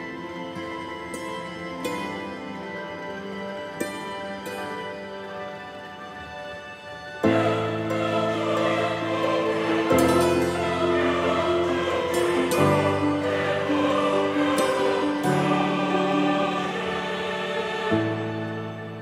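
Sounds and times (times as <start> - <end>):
slow choir-like chords: 0.0 - 19.0.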